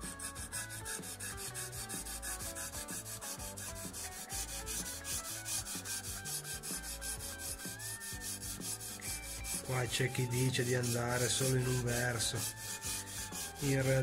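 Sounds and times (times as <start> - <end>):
hone rubbing on steel blade: 0.0 - 14.0
soft background music: 0.0 - 14.0.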